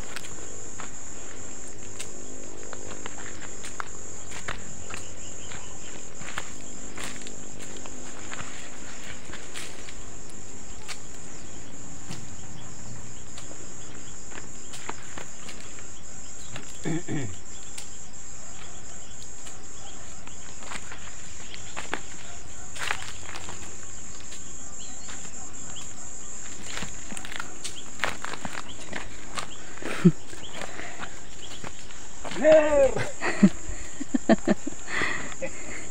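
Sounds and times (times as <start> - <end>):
footsteps on stony soil: 0.0 - 16.9, 18.6 - 35.9
insect chorus: 0.0 - 35.9.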